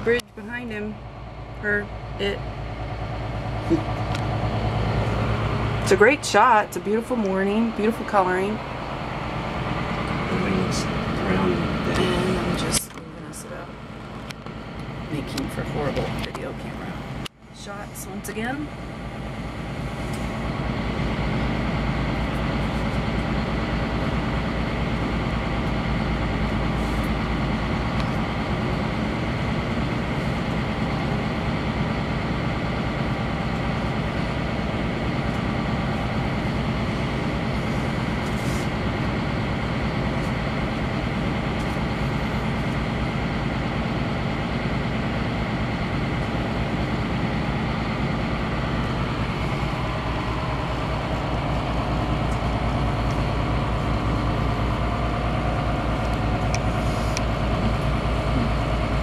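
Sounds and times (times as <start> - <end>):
boat engines droning: 0.0 - 59.0.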